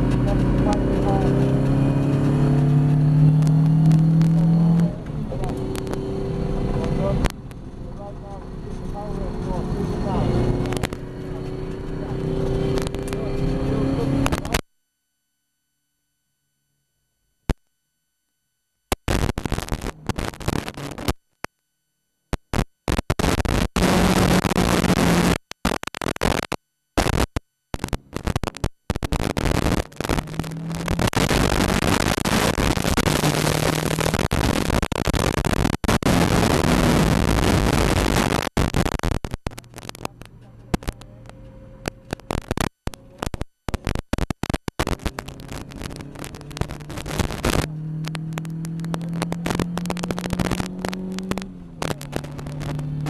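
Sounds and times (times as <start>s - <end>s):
harsh static hiss: 0.0s - 14.6s, 18.9s - 21.6s, 22.3s - 53.0s.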